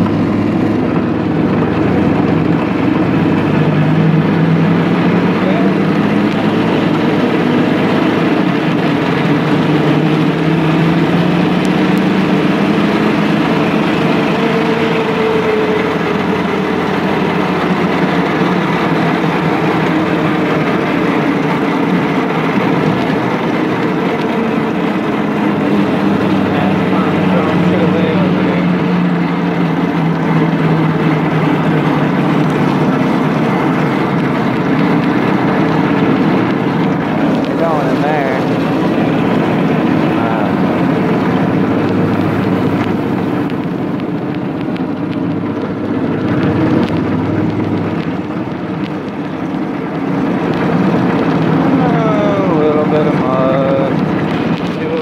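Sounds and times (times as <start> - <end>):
go-kart engine droning: 0.0 - 55.0.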